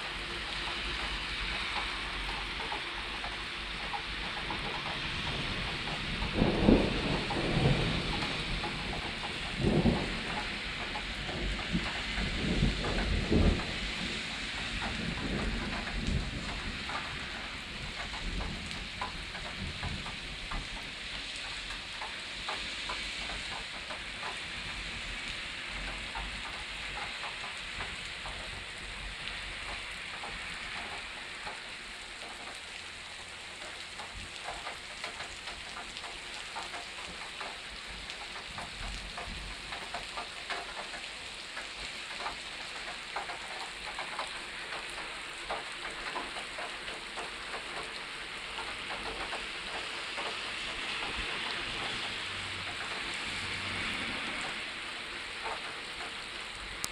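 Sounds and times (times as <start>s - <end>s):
rain hissing: 0.0s - 56.9s
raindrops tapping on hard surface: 0.0s - 56.9s.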